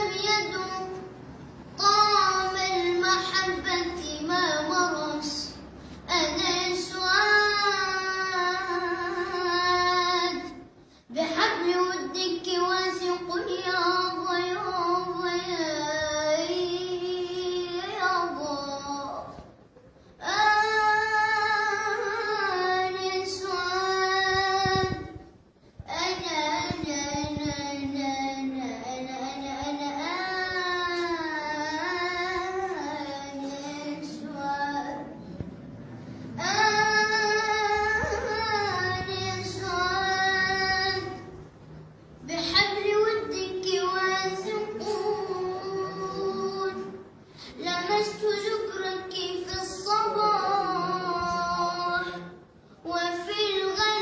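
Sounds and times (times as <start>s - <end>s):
child singing unaccompanied: 0.0s - 19.5s, 20.2s - 35.4s, 36.4s - 41.4s, 42.2s - 54.0s.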